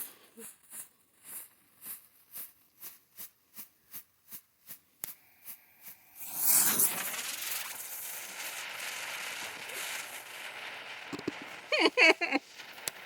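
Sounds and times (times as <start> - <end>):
strobe firework popping: 0.0 - 13.0.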